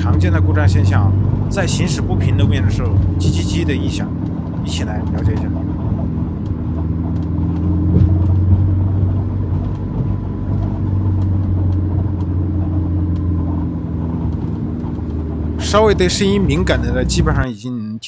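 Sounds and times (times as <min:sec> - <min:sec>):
engine and road noise drone: 0:00.0 - 0:17.5
shock absorber squeaks: 0:00.0 - 0:17.6.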